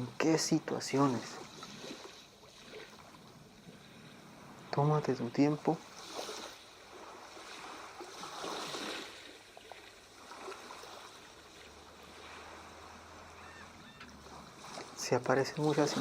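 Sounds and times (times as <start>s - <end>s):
soft waves washing on shore: 0.0s - 16.0s.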